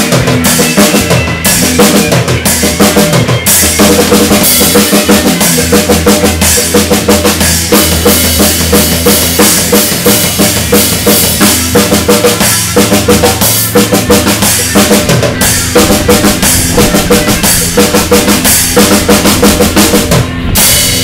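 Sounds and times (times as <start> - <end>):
bass guitar: 0.0 - 21.0
drum kit beat: 0.0 - 21.0
electric guitar: 0.0 - 21.0.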